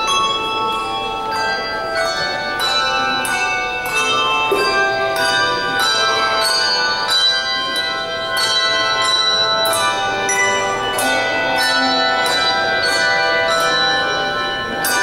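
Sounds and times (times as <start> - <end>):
handbell choir ringing chords: 0.0 - 15.0.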